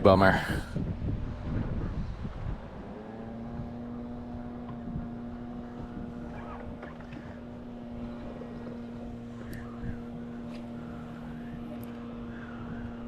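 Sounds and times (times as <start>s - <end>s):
boat motor humming: 0.0s - 13.0s
water: 0.0s - 13.0s
wind: 0.0s - 13.0s.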